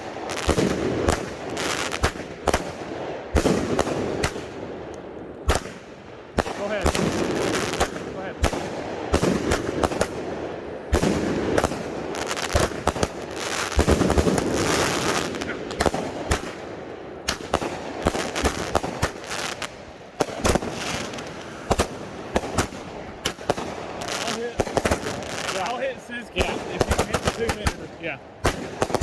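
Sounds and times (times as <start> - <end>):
firework bangs and pops: 0.0 - 29.0
firework crackling and hissing: 0.0 - 29.0.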